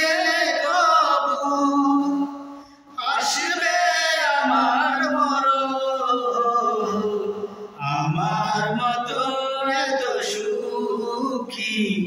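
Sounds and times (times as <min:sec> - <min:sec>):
two men singing unaccompanied: 0:00.0 - 0:12.0.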